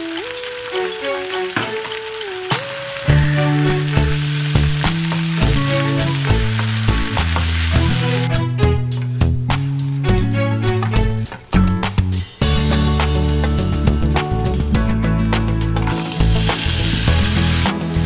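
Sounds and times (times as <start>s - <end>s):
food sizzling in a frying pan: 0.0s - 8.3s, 8.9s - 18.0s
background music with bass: 3.0s - 18.0s.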